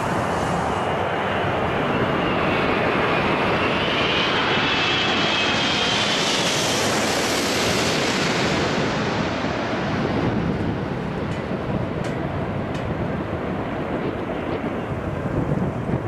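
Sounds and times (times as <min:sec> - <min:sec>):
jet airliner roar overhead: 0:00.0 - 0:16.0.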